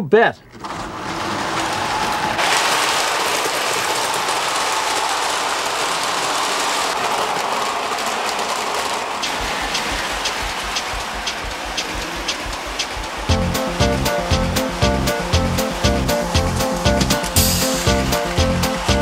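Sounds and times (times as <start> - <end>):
model train wheels rumbling on rails: 0.5 - 19.0
wheels clicking over rail joints: 0.5 - 19.0.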